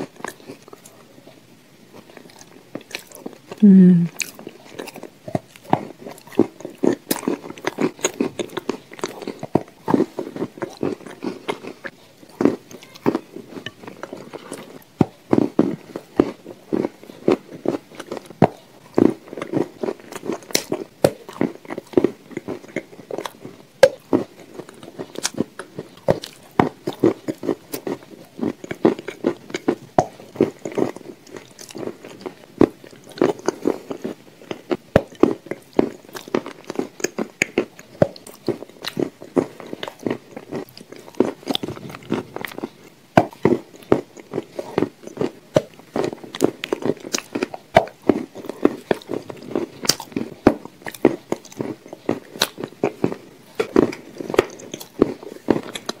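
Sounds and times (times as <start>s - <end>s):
chewing with soft crunches: 0.0s - 56.0s.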